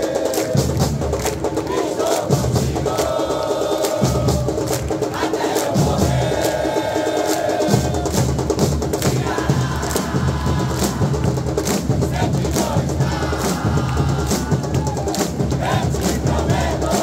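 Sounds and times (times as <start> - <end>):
crowd chanting in unison: 0.0 - 17.0
drums beating steady rhythm: 0.0 - 17.0.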